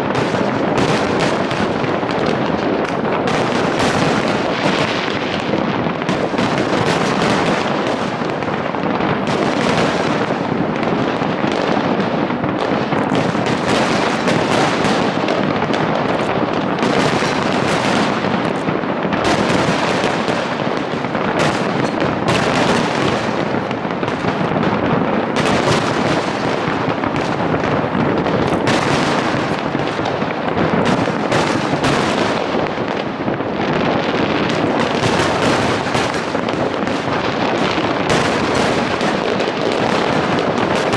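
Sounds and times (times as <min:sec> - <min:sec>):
fireworks exploding: 0:00.0 - 0:40.9.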